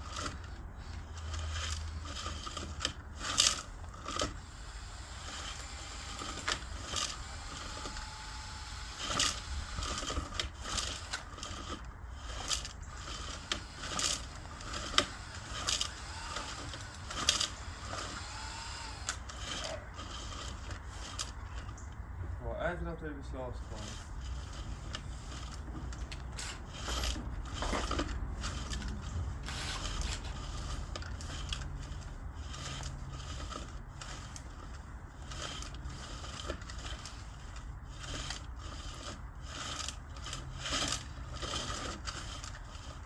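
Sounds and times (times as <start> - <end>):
small parts clicking and scraping: 0.0 - 22.2, 23.4 - 43.0.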